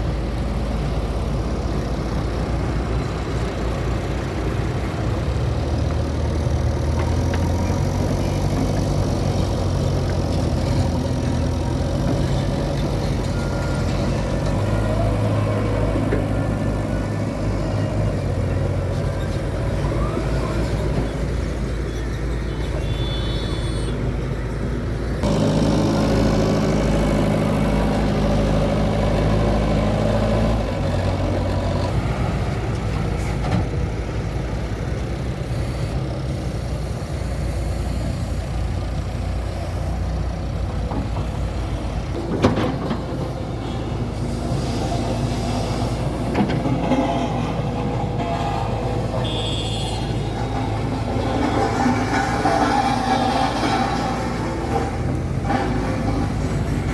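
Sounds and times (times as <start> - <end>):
diesel engine under load: 0.0 - 56.9.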